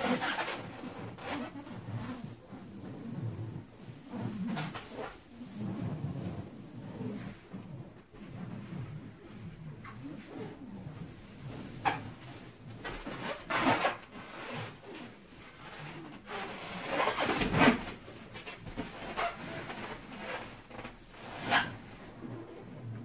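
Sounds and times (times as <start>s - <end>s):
balloon rubber rubbing on fur: 0.0s - 23.0s.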